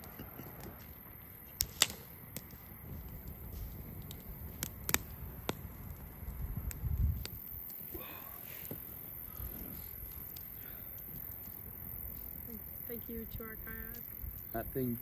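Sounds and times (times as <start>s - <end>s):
campfire crackling and popping: 0.0s - 15.0s
low rumble of flame: 0.0s - 15.0s.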